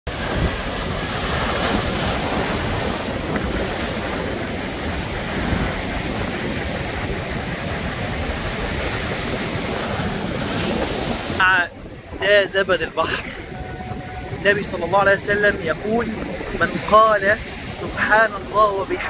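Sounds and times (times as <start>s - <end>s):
sea surf breaking: 0.1s - 19.0s
wind buffeting microphone: 0.1s - 19.0s.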